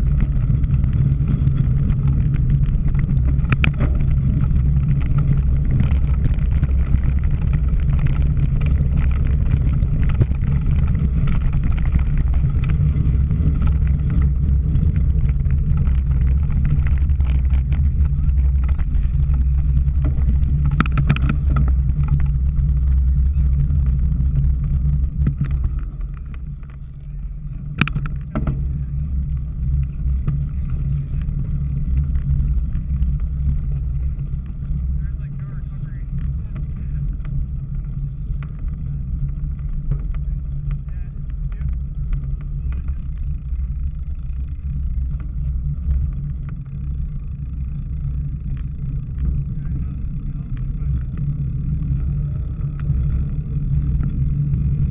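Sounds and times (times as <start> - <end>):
bike rattling over rough ground: 0.0 - 54.9
wind rumble on microphone: 0.0 - 54.9.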